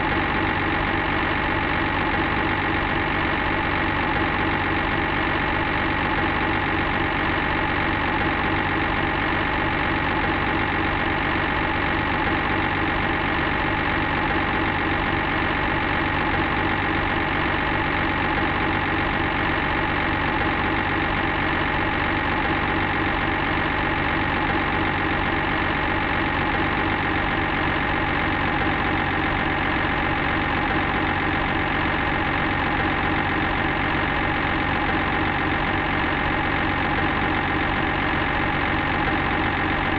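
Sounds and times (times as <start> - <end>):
construction vehicle engine idling: 0.0 - 39.9.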